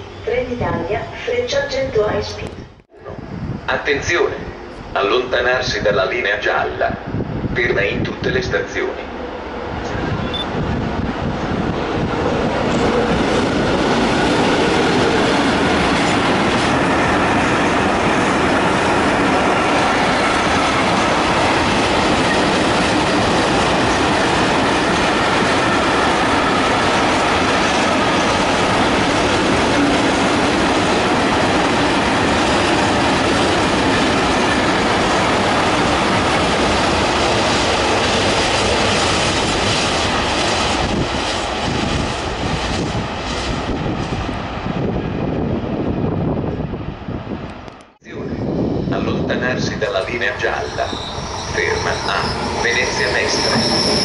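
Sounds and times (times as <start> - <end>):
train wheels rumbling on rails: 3.8 - 54.0.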